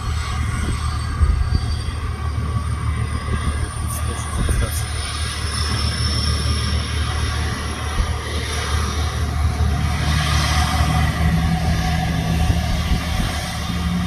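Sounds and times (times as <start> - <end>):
turbofan engine rumble and whine: 0.0 - 14.0.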